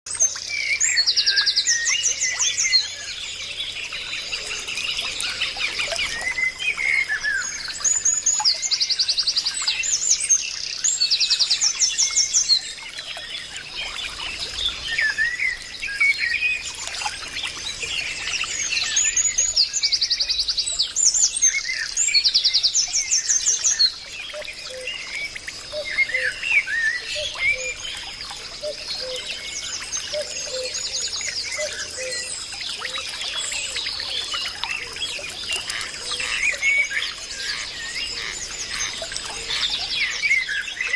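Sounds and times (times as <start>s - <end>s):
birds chirping and singing: 0.1s - 40.9s.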